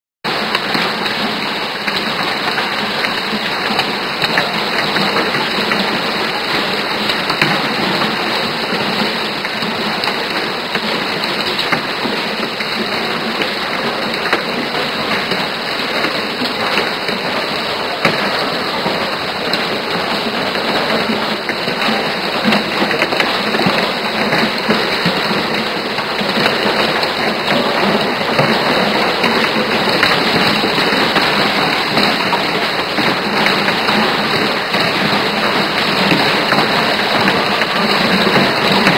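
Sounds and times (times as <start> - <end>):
hailstones pelting pavement: 0.3 - 38.9.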